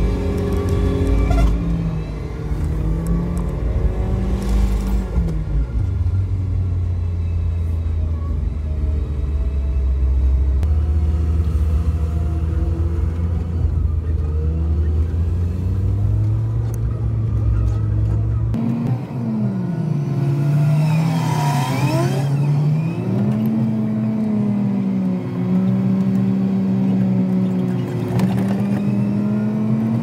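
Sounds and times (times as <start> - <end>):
car engine: 0.0 - 30.0
road noise inside car: 0.0 - 30.0.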